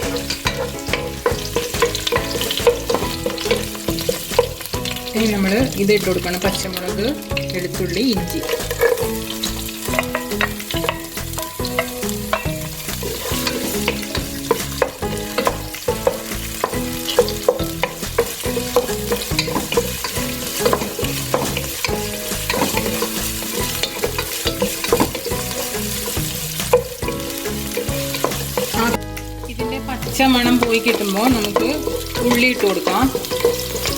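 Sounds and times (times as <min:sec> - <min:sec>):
spatula scraping pan: 0:00.0 - 0:29.0, 0:29.9 - 0:33.9
food sizzling in oil: 0:00.0 - 0:33.9.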